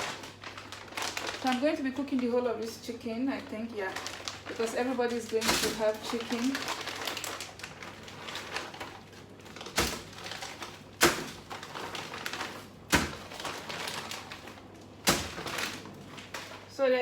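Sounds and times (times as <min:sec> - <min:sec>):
rustling: 0:00.0 - 0:02.4, 0:03.4 - 0:16.8.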